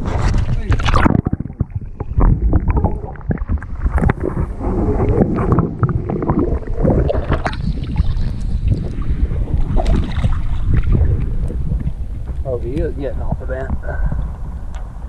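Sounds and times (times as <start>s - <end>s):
knocks and splashes against hull: 0.0s - 13.8s
water sloshing and gurgling: 0.0s - 15.0s.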